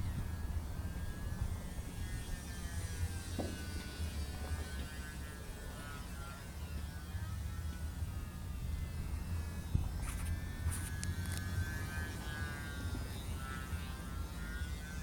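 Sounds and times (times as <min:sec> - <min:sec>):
model aircraft motor whine: 0:00.0 - 0:15.0.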